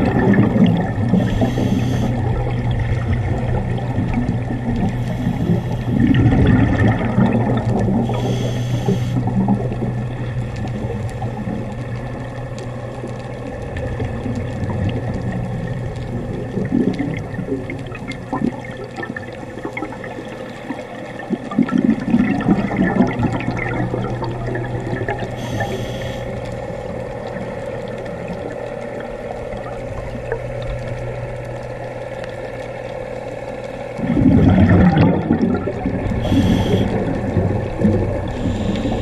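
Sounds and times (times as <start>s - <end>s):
steady low hum: 0.0s - 39.0s
underwater exhaled bubbles gurgling: 0.0s - 39.0s.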